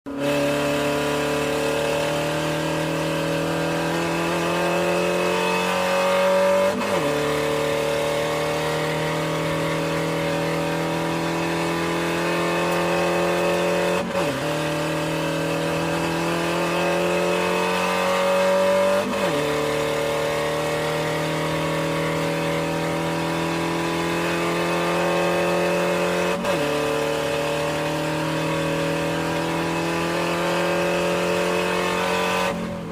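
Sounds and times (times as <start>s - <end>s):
race car engine accelerating: 0.1s - 32.9s.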